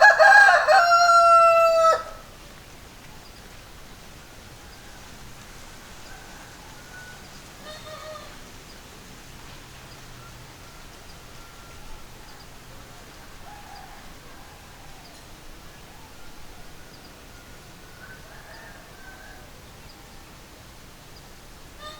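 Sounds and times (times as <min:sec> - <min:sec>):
distant bird calls: 0:00.0 - 0:21.9.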